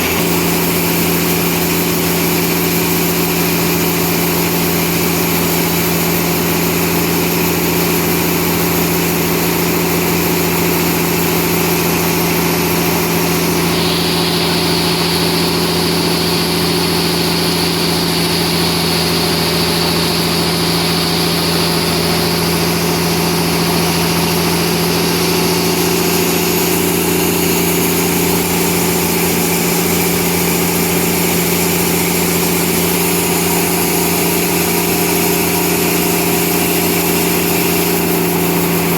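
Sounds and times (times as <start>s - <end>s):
high machine whine: 0.0s - 38.9s
sawmill machinery humming: 0.0s - 38.9s.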